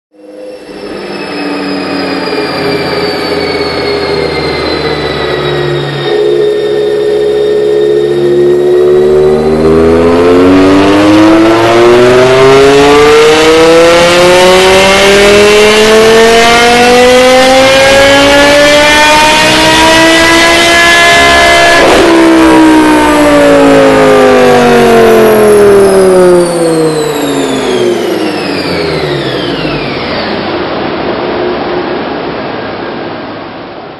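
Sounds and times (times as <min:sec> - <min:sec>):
dyno rollers spinning down: 0:00.2 - 0:33.9
car engine revving at full throttle: 0:00.4 - 0:33.9.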